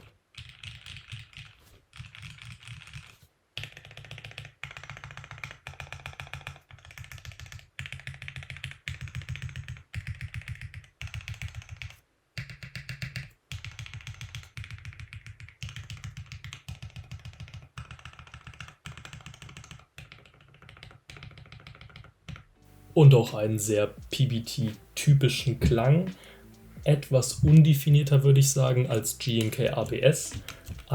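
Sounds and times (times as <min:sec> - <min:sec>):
mechanical keyboard typing: 0:00.3 - 0:22.5, 0:23.1 - 0:30.9.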